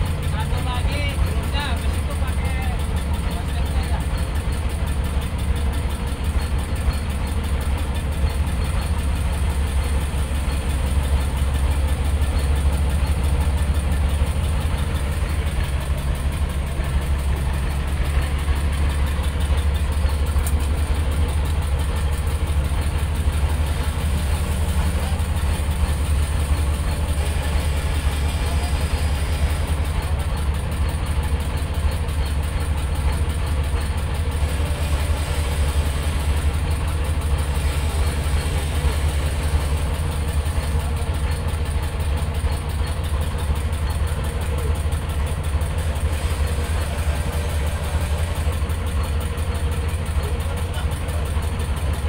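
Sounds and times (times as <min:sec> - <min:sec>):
boat engine idling: 0:00.0 - 0:52.0.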